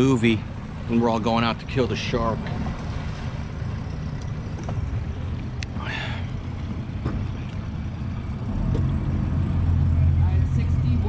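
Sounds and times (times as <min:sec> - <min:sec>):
outboard boat motor humming: 0:00.0 - 0:11.0.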